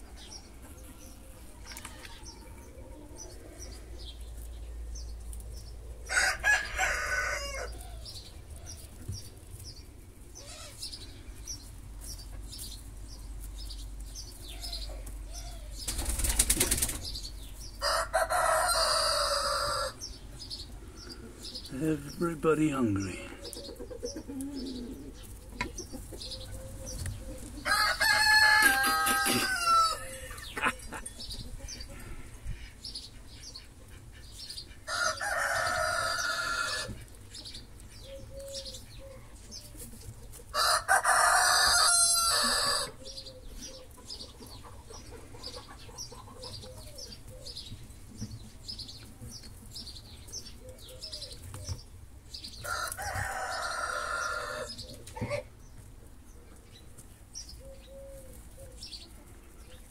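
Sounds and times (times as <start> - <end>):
birds calling: 0.0 - 39.8, 40.6 - 59.9.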